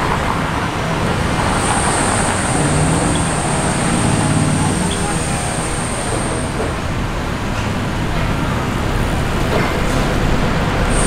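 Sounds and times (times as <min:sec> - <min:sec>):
rumble of passing vehicles: 0:00.0 - 0:11.0
thin high steady whine: 0:00.0 - 0:11.0.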